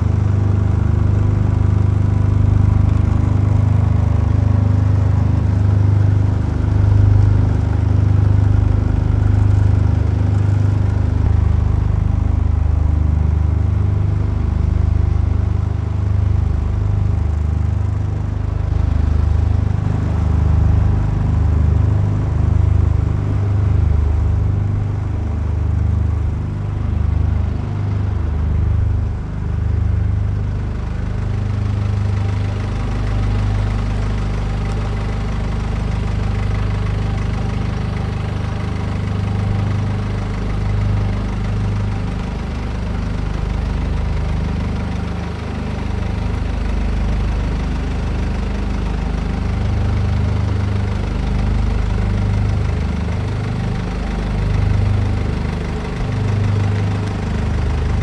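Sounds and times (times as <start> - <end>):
engine running at low revs: 0.0 - 58.0.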